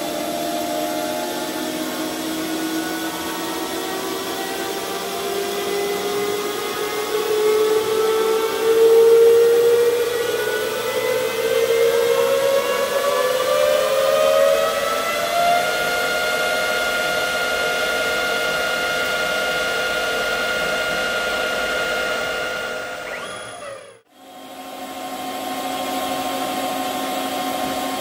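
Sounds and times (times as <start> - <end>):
lathe whine: 0.0 - 28.0.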